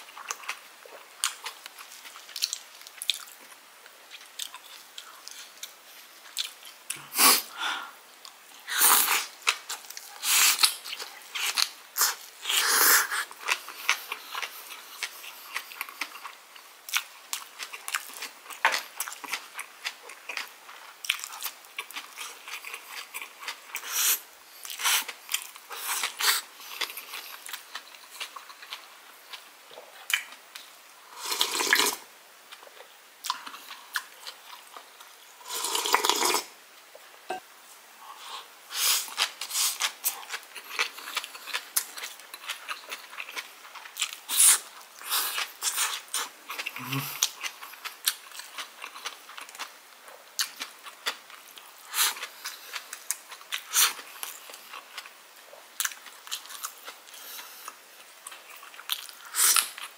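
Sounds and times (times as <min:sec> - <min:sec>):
chewing and crunching food: 0:00.0 - 0:07.1, 0:08.2 - 0:36.4, 0:38.2 - 0:59.9.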